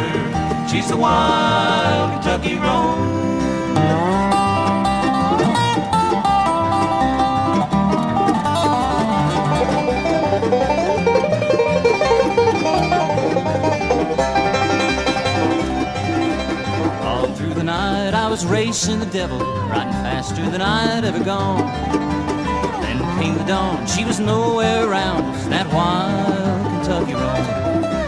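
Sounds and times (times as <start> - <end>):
bluegrass band playing: 0.0 - 28.0.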